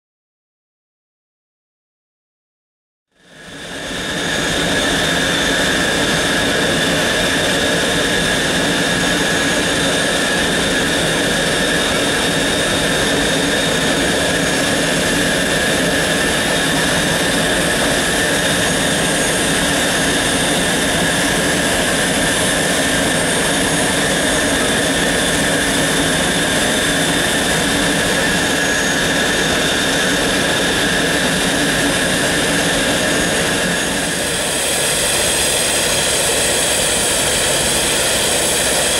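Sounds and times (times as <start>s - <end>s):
jet engines running: 3.2s - 38.9s.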